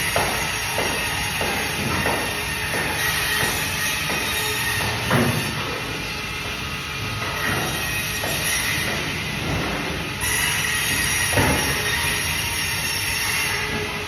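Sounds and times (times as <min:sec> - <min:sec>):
band saw cutting fish: 0:00.0 - 0:14.0.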